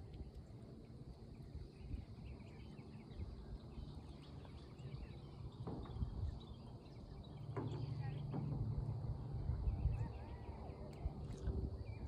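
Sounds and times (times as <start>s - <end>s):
low rumbling noise: 0.0s - 12.0s.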